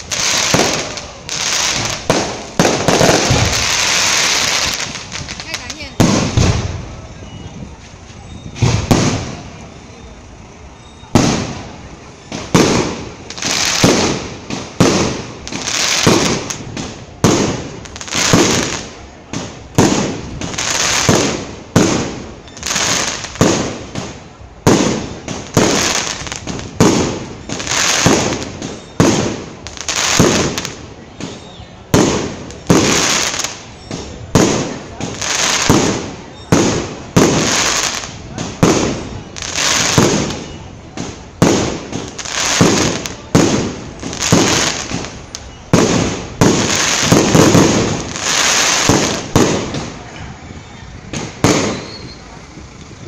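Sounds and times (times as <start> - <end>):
fireworks bangs: 0.0 - 53.0.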